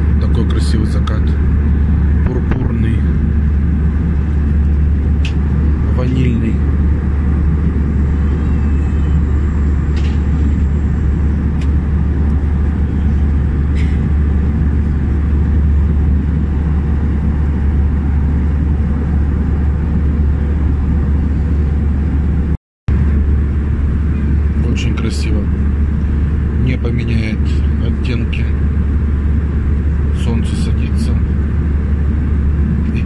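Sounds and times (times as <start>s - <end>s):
aircraft cabin engine drone: 0.0s - 33.0s
airflow noise: 0.0s - 33.0s.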